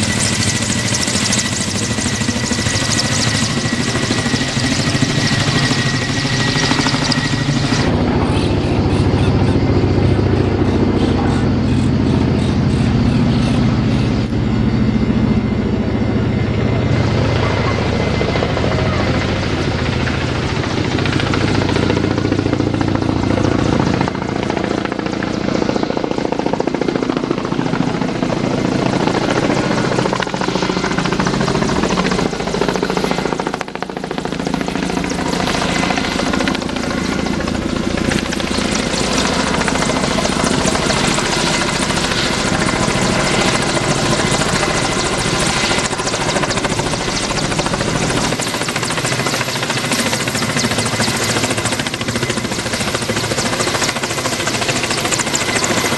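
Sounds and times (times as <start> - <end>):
helicopter running loudly: 0.0 - 55.9.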